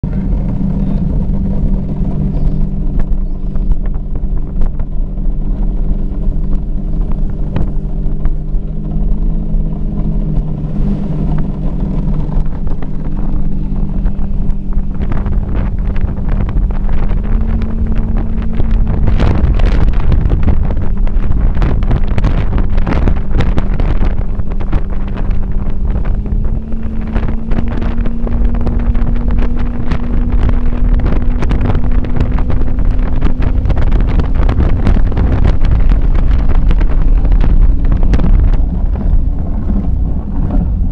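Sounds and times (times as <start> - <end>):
outboard motor at speed: 0.0 - 40.9
wind buffeting microphone: 0.0 - 40.9.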